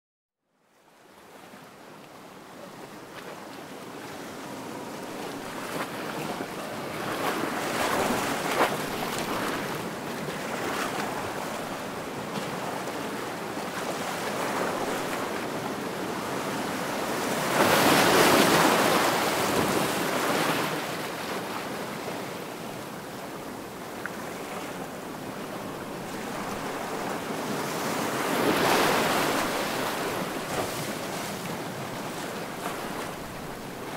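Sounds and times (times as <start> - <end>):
ocean surf breaking: 4.2 - 23.0, 23.6 - 33.9.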